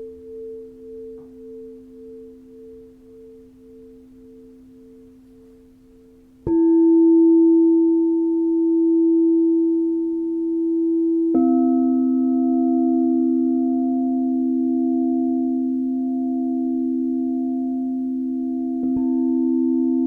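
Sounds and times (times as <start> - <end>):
lower singing bowl tone: 0.0 - 20.0
singing bowl ringing: 0.0 - 20.0.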